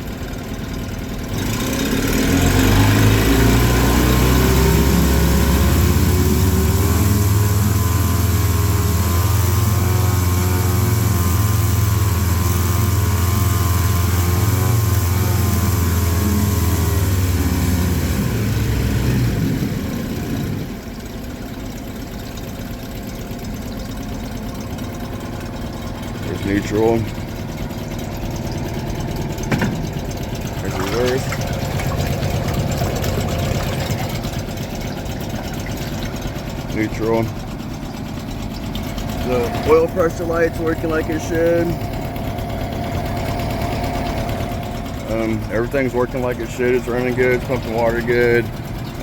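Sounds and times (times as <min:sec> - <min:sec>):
outboard motor running: 0:00.0 - 0:49.0.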